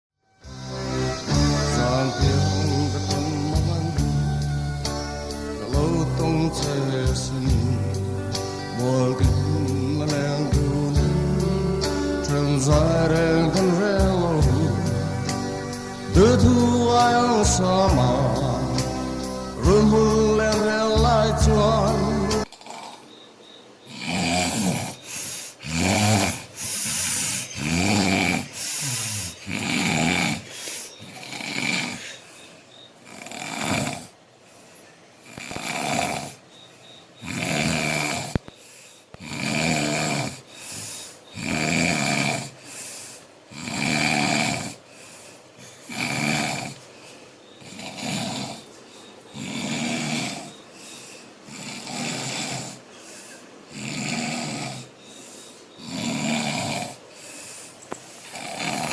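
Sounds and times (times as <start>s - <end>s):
man snoring loudly: 0.4s - 23.1s, 23.9s - 32.3s, 33.0s - 34.2s, 35.2s - 36.4s, 37.2s - 38.4s, 39.2s - 44.9s, 45.6s - 46.8s, 47.6s - 50.7s, 51.4s - 52.9s, 53.6s - 57.5s, 58.2s - 58.9s.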